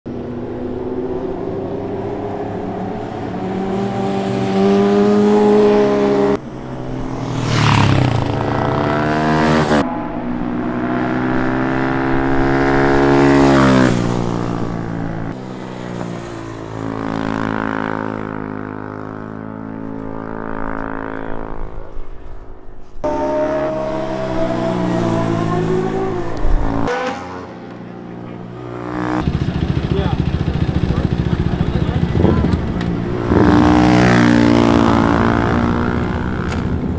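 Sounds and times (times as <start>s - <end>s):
motorcycle engine revving past: 0.2s - 21.9s, 23.0s - 36.9s.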